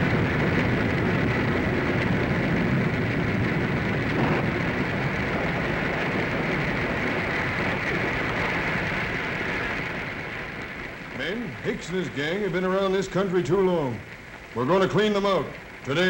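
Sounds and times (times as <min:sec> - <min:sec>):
low rumble: 0:00.0 - 0:16.0
rain and wind rushing: 0:00.0 - 0:16.0.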